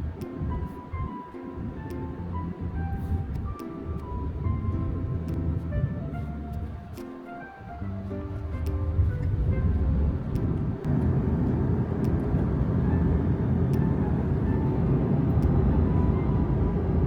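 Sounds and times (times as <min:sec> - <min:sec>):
steady low rumble: 0:00.0 - 0:07.0, 0:07.6 - 0:17.0
faint background music: 0:00.0 - 0:17.0.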